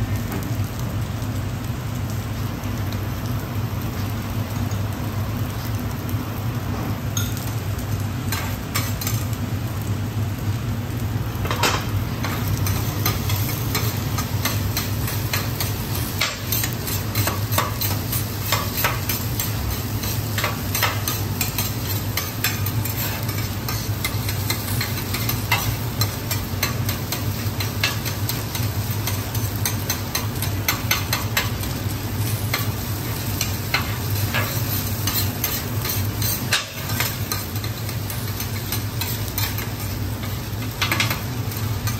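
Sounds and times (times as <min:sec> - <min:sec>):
rice sizzling on a griddle: 0:00.0 - 0:41.9.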